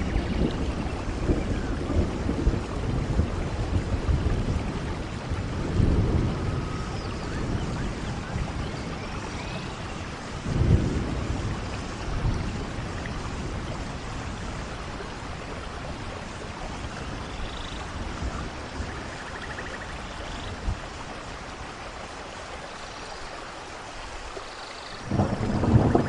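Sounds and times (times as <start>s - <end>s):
thunder rumbling: 0.0s - 19.9s, 25.0s - 26.0s
steady rain: 0.0s - 26.0s.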